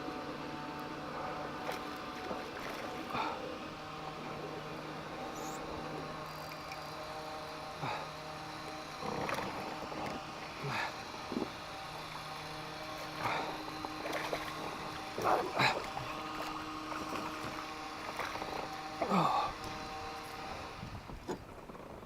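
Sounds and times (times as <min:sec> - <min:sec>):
boat motor hum: 0:00.0 - 0:22.0.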